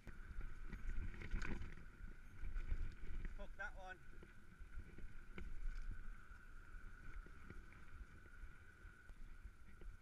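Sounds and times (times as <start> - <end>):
bike tyres rumbling on gravel: 0.0 - 10.0.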